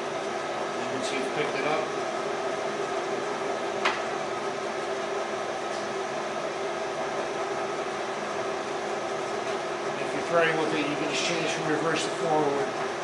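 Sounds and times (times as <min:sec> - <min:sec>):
lathe running with mechanical hum: 0:00.0 - 0:13.0.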